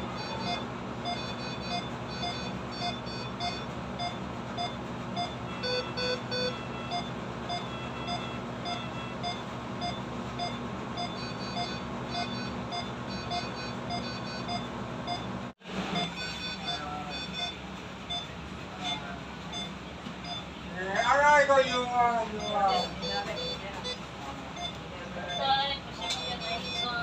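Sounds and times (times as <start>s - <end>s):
steady machine hum: 0.0s - 27.0s
higher-pitched alarm beeps: 0.1s - 15.3s, 15.9s - 21.2s, 22.3s - 27.0s
low medical monitor beep: 0.1s - 15.3s, 15.9s - 20.5s, 22.3s - 27.0s.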